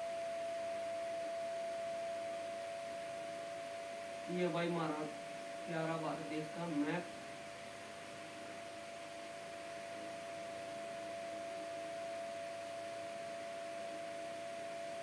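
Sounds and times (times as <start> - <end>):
high-pitched electrical whine: 0.0 - 15.0.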